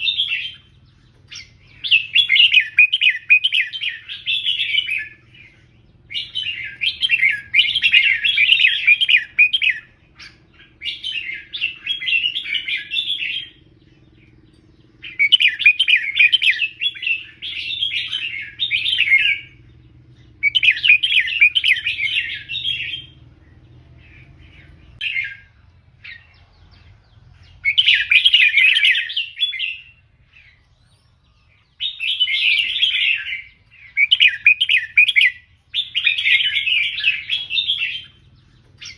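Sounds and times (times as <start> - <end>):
bird warbling song: 0.0 - 38.9.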